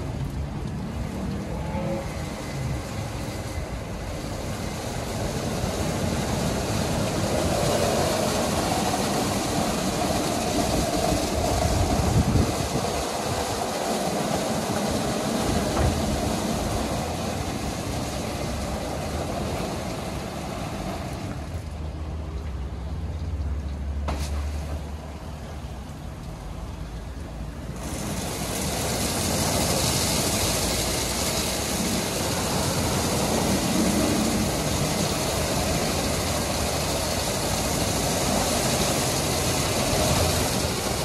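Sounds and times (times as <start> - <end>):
car wash brushes and spray: 0.0 - 22.0, 24.0 - 41.0.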